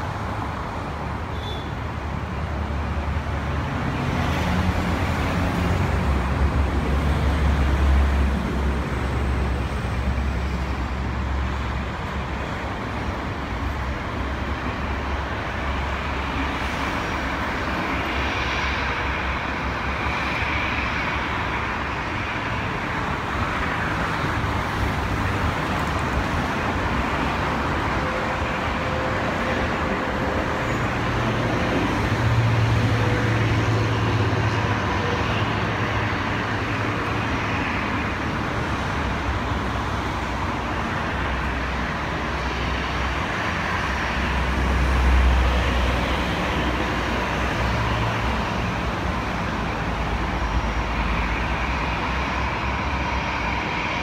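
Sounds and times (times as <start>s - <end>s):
road traffic: 0.0s - 54.0s
jet airliners taxiing: 2.5s - 54.0s.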